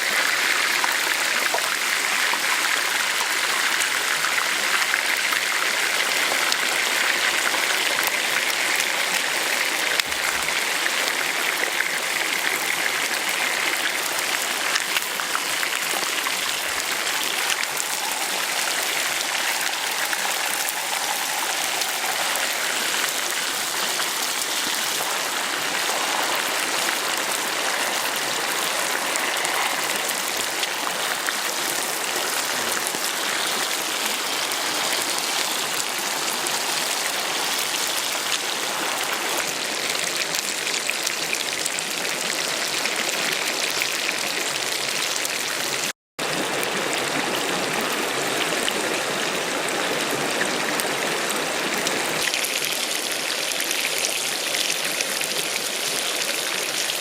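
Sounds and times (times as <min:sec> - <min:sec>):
hot oil sizzling and crackling: 0:00.0 - 0:47.0, 0:52.1 - 0:57.0.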